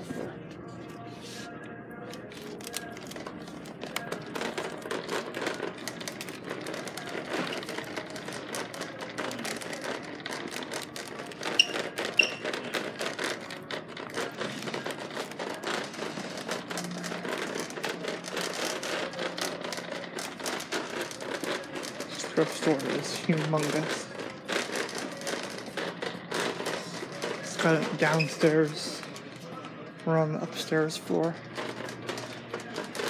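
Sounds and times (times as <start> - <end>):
indoor store background noise: 0.0 - 33.0.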